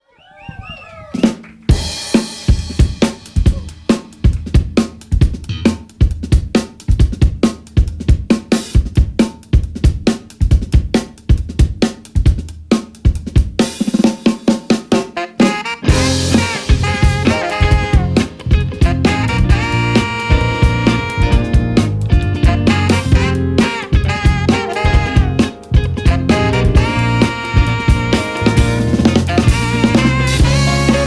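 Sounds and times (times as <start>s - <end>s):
full band playing: 0.8s - 12.4s, 13.2s - 31.0s
drum kit playing funk groove: 1.0s - 31.0s.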